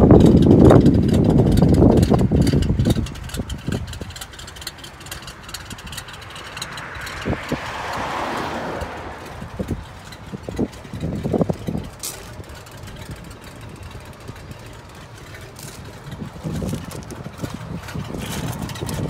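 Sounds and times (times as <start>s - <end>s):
pickup truck engine idling: 0.0s - 19.0s.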